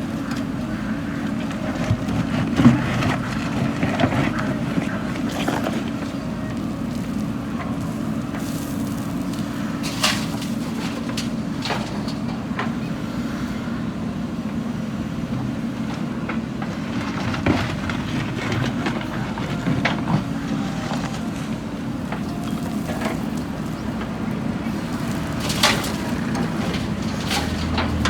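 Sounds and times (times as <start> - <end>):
backhoe diesel engine running: 0.0 - 28.0.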